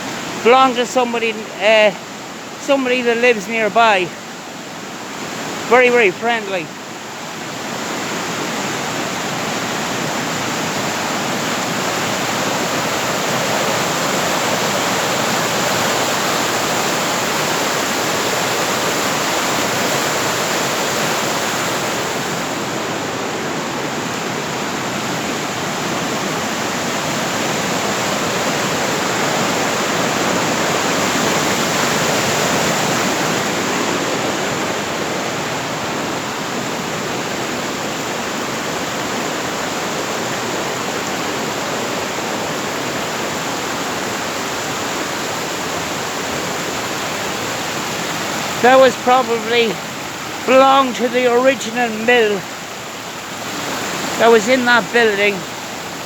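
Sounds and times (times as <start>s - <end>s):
fast-flowing water rushing: 0.0s - 56.0s.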